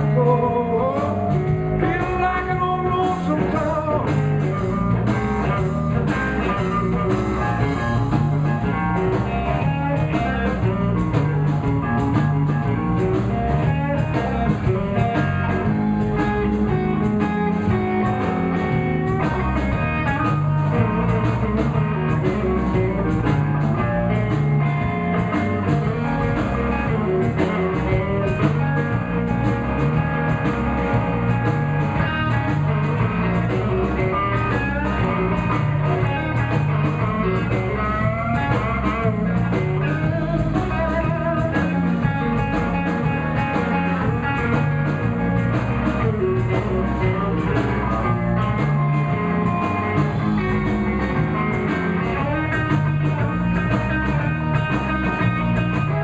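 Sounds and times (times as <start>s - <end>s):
blues band playing: 0.0s - 56.0s
guitar: 0.0s - 56.0s
repeating bass line: 0.0s - 56.0s
steady beat: 0.0s - 56.0s.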